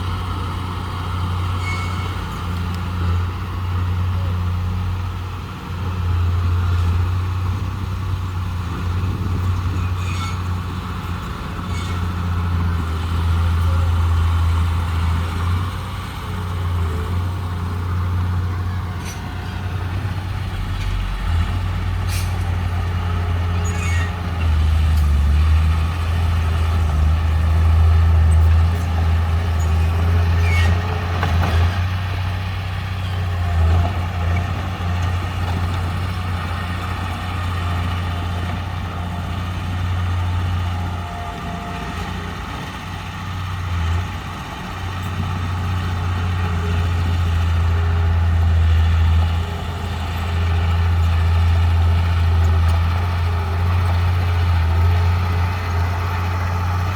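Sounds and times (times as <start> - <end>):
heavy diesel machinery drone: 0.0 - 56.9.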